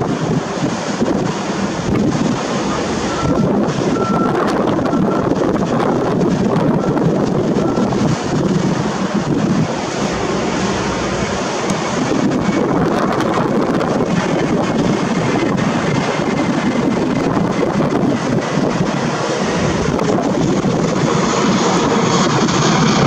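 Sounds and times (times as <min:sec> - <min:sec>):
surf washing: 0:00.0 - 0:23.0
wind buffeting microphone: 0:00.0 - 0:23.0.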